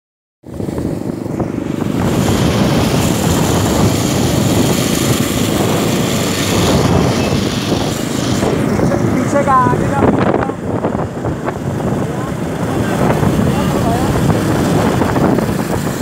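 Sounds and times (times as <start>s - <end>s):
wind buffeting microphone: 0.4s - 16.0s
motorcycle engine running: 0.5s - 16.0s.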